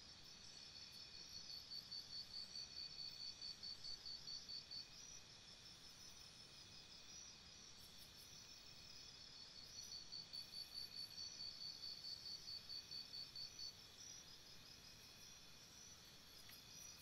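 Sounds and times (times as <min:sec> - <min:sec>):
insect chirping trill: 0:00.2 - 0:17.0.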